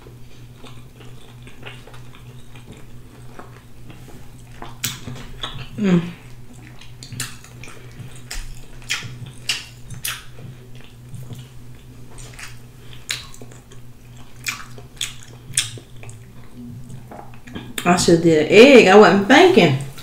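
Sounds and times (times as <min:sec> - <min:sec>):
wet mouth smacking and chewing: 0:00.0 - 0:17.9.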